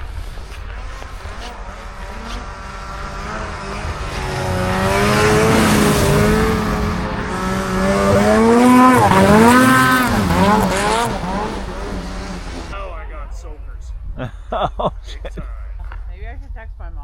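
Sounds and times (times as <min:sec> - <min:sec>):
snowmobile engine revving: 0:00.0 - 0:15.5.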